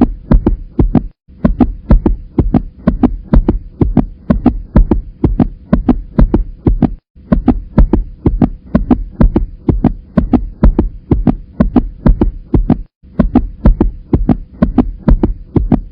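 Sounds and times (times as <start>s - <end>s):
heartbeat through stethoscope: 0.0s - 15.9s.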